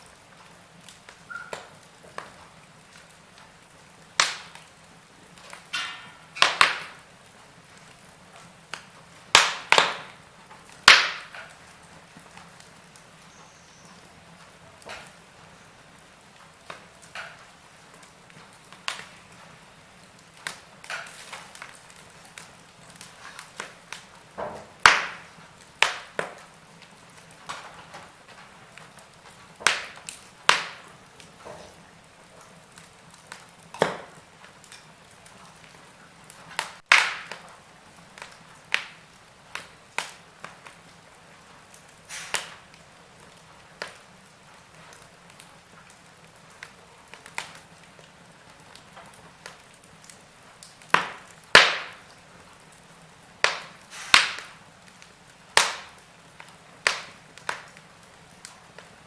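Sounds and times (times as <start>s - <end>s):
faint steady hiss: 0.0s - 59.0s
wood fire crackling and popping: 0.0s - 59.0s.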